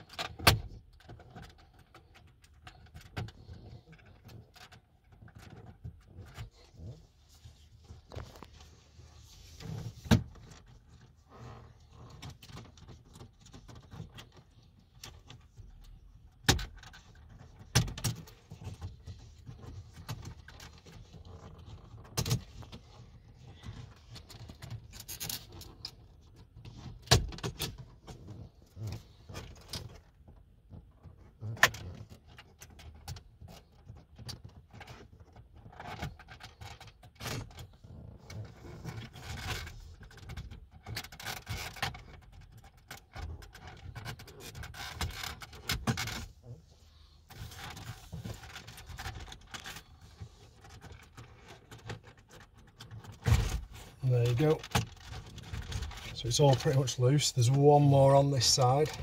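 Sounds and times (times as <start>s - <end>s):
plastic scraping plastic: 0.0s - 57.0s.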